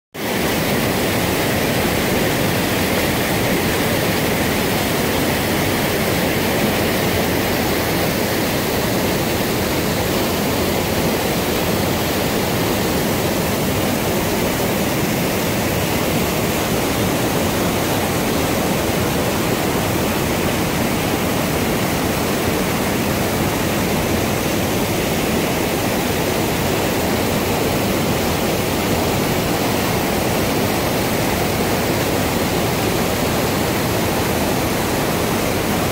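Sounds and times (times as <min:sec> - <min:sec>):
waterfall rushing: 0:00.2 - 0:35.9.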